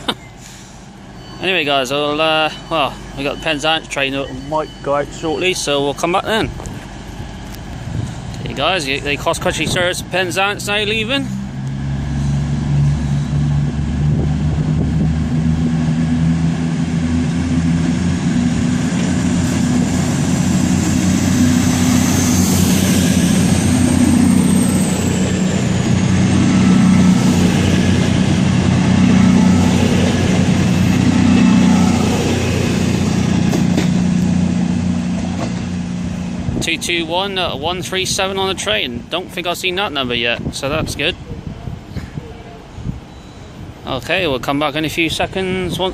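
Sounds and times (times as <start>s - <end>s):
diesel train engine drone: 0.0s - 45.9s.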